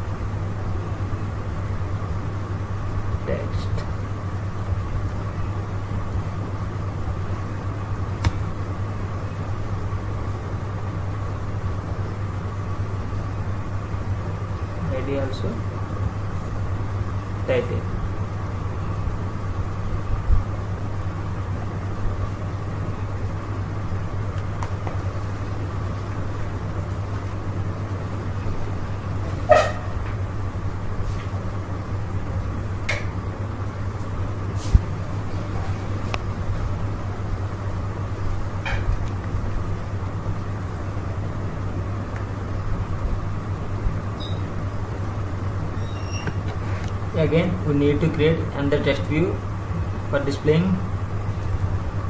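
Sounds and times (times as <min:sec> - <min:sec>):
low background hum and hiss: 0:00.0 - 0:52.0.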